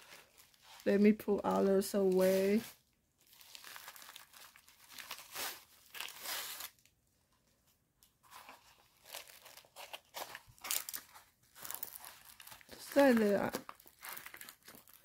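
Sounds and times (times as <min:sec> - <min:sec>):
paper package rustling: 0:00.0 - 0:06.9, 0:08.1 - 0:15.0
plastic mailer bag crinkling: 0:00.0 - 0:06.9, 0:08.3 - 0:15.0.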